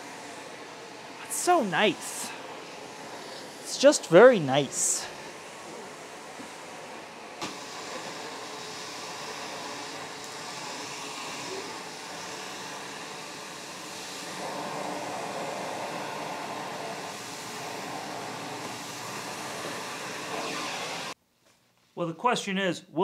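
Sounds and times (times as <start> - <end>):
vacuum cleaner running: 0.0 - 21.2.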